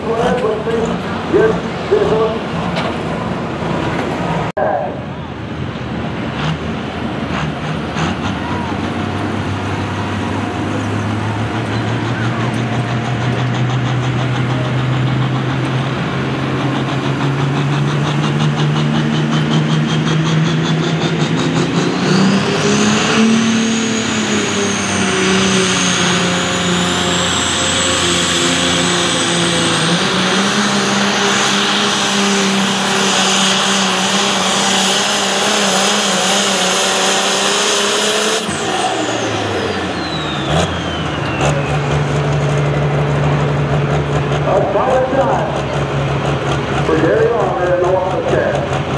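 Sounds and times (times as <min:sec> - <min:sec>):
diesel tractor engine: 0:00.0 - 0:48.9.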